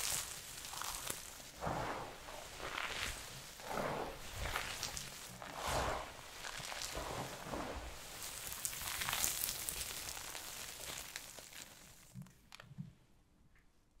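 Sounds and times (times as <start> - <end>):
soap crunching and crackling: 0.0 - 12.7.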